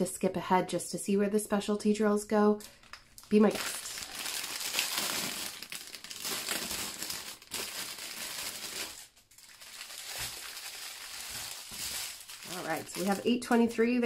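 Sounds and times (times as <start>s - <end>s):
plastic bags crinkling: 2.6s - 14.0s.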